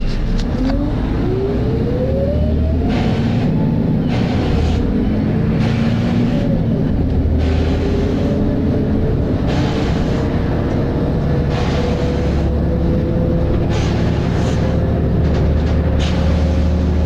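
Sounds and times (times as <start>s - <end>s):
bus engine pulling away: 0.0s - 17.0s
rising whine: 0.3s - 17.0s.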